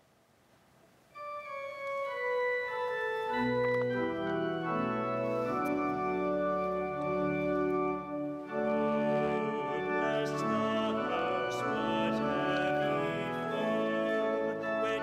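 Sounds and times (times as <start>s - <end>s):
organ playing a hymn: 1.2s - 15.0s.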